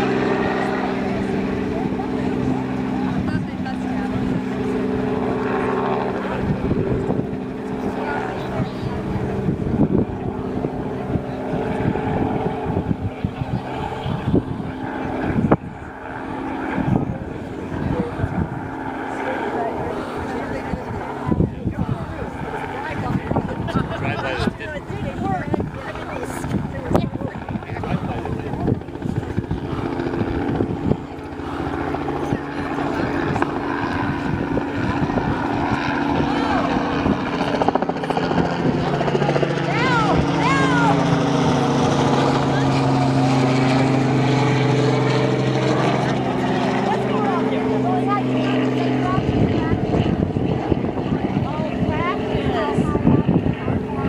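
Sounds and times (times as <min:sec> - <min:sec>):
helicopter engine and rotor: 0:00.0 - 0:54.0
wind buffeting microphone: 0:00.0 - 0:54.0.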